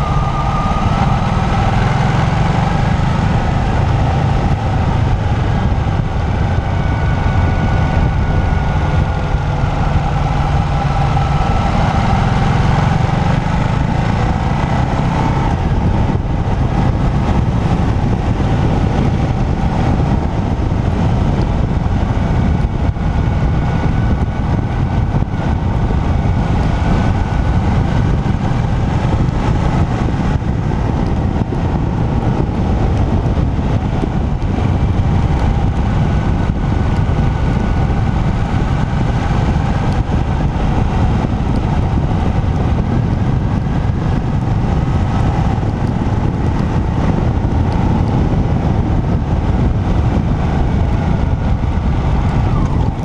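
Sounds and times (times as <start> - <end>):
motorcycle engine running: 0.0 - 53.0
wind and road noise: 0.0 - 53.0.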